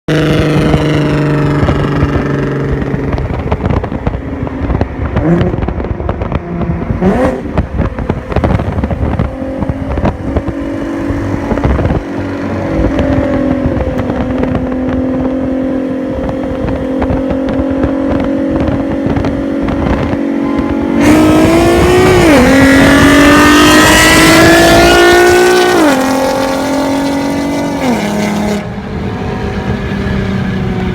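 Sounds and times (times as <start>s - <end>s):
sports car engine revving: 0.1s - 30.6s.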